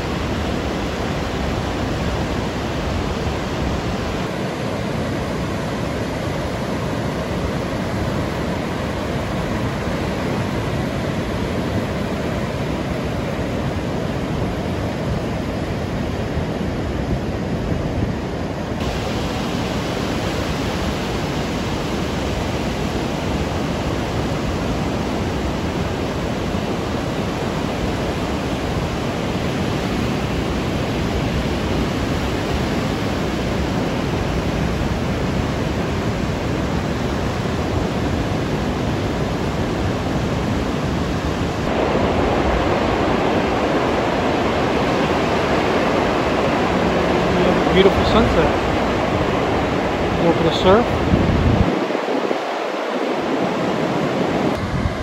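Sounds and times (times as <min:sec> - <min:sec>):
ocean surf washing: 0:00.0 - 0:55.0.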